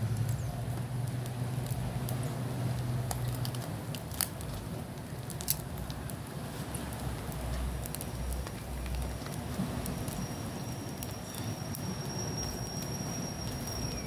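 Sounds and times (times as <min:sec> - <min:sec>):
charcoal fire crackling: 0:00.0 - 0:14.0.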